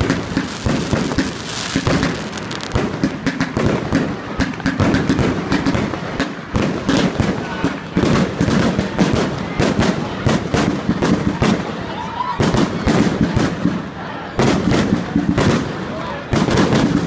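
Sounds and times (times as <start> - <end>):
fireworks bursting: 0.0 - 11.8, 12.4 - 17.0
crowd talking: 0.0 - 17.0.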